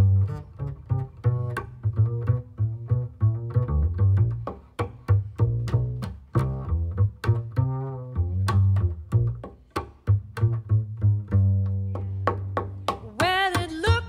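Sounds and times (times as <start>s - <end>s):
plucked double bass: 0.0s - 14.0s.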